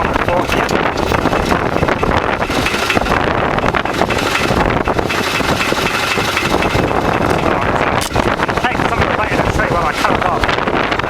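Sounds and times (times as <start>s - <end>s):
tractor engine running: 0.0s - 11.0s
wind buffeting microphone: 0.0s - 11.0s.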